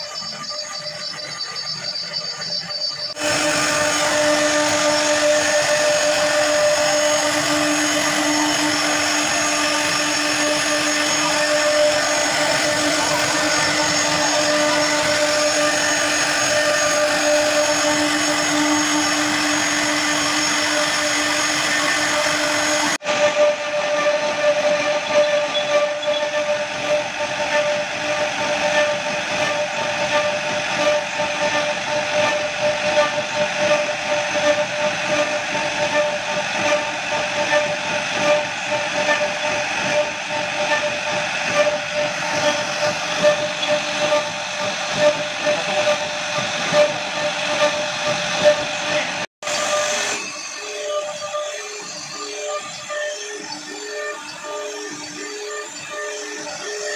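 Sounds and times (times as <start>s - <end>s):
wood router spindles whining: 0.0s - 56.9s
router bits cutting wood: 0.1s - 56.9s.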